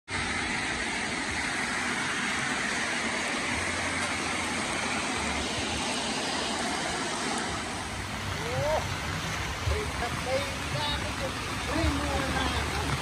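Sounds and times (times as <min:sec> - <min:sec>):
rain on grass and leaves: 0:00.1 - 0:13.0.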